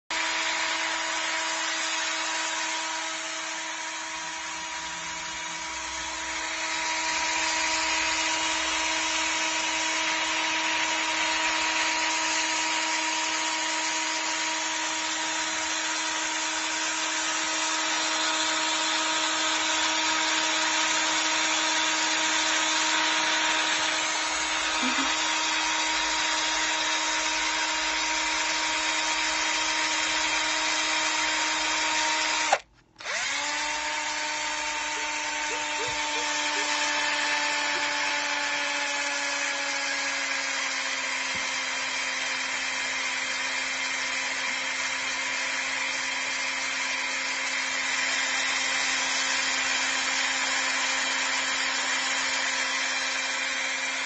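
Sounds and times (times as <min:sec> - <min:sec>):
cordless drill whining: 0:00.1 - 0:54.0.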